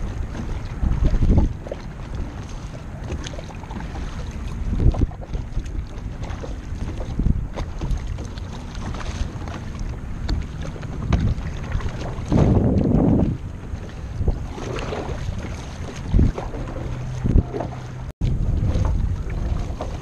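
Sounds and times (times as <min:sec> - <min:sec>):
kayak paddle splashing in water: 0:00.0 - 0:20.0
wind buffeting microphone: 0:00.0 - 0:20.0.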